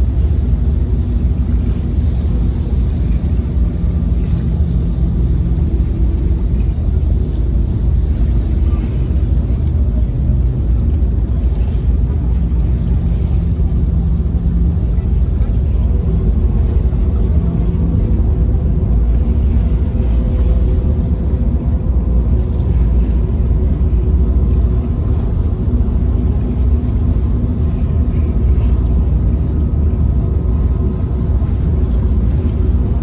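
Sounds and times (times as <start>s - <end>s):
faint steady hum: 0.0s - 33.0s
ferry engine rumbling: 0.0s - 33.0s.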